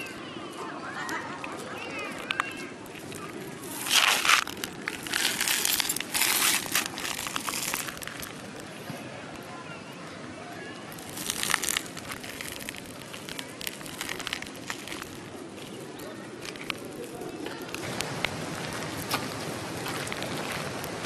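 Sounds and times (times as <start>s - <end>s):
footsteps crunching on dry ground: 0.0s - 9.1s, 10.9s - 21.0s.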